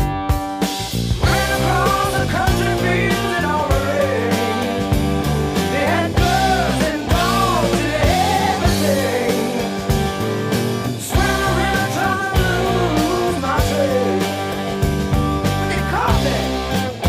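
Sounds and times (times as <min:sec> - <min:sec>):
rock song with vocals: 0:00.0 - 0:17.0.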